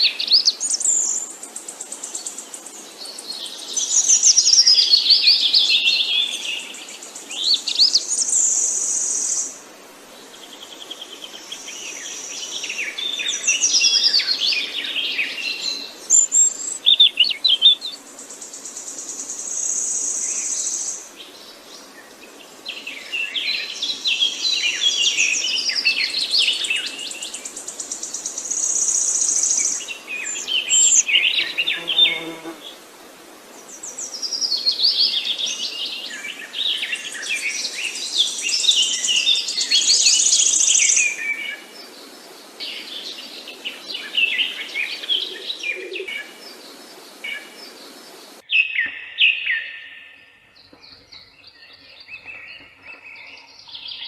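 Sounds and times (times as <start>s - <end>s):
steady hiss: 0.0s - 48.4s
songbirds singing: 0.0s - 54.0s.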